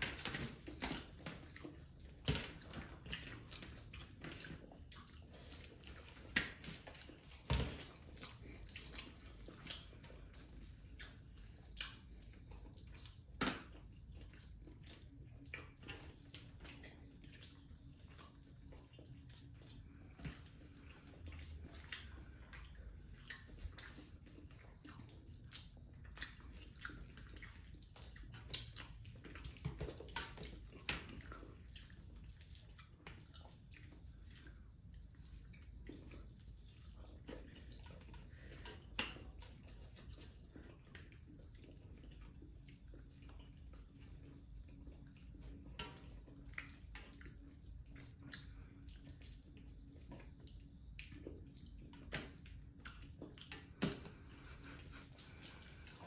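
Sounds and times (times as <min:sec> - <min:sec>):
chewing: 0:00.0 - 0:56.0
wet squelching of food mashed by hand: 0:00.0 - 0:56.0.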